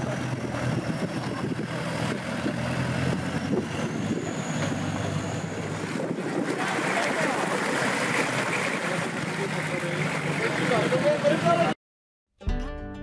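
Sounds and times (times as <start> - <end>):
off-road vehicle engine running: 0.0 - 11.8.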